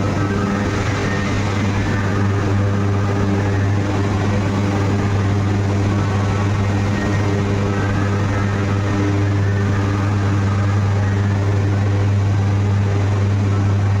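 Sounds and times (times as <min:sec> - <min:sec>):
deep electrical hum: 0:00.0 - 0:14.0.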